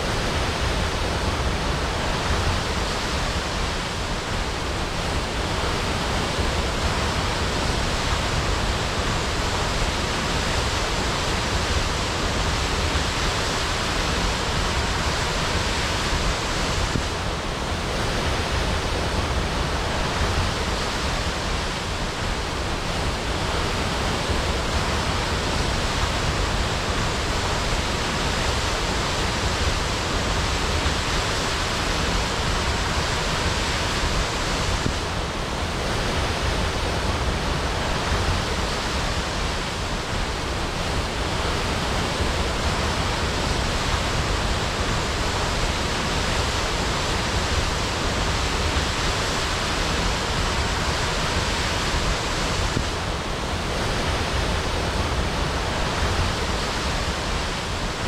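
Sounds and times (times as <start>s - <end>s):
waterfall crashing: 0.0s - 58.0s.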